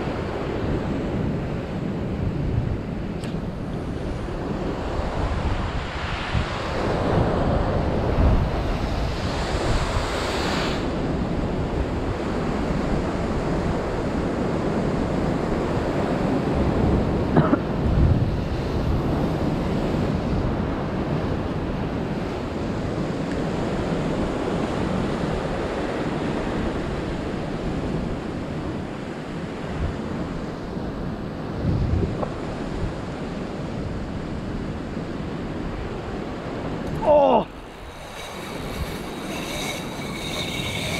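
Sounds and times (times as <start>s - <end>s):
wind buffeting microphone: 0.0s - 28.8s, 29.7s - 40.9s.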